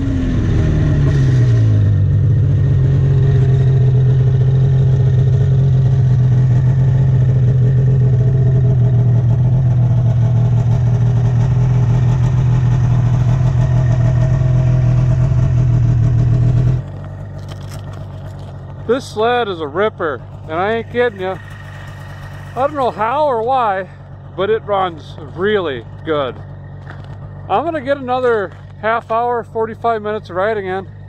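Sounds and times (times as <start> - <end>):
snowmobile engine drone: 0.0 - 31.0.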